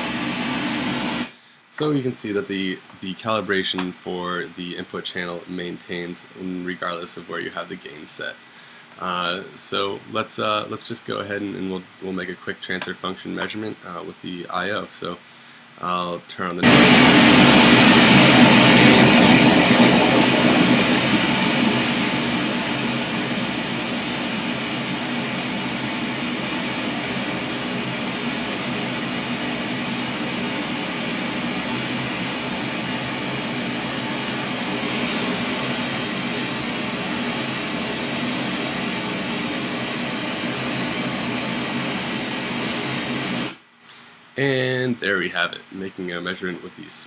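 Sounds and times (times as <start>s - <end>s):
pink noise hiss from loudspeaker: 0.0s - 47.0s.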